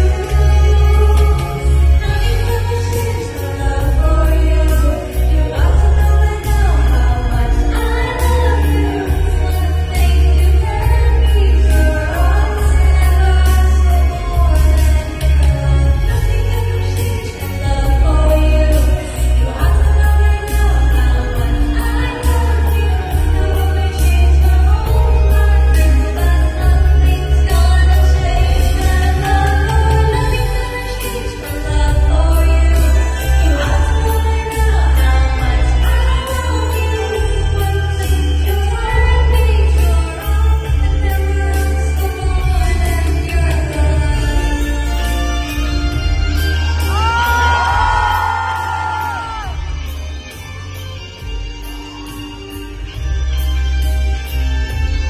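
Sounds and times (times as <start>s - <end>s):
heavy bass line: 0.0s - 55.0s
pop backing track: 0.0s - 55.0s.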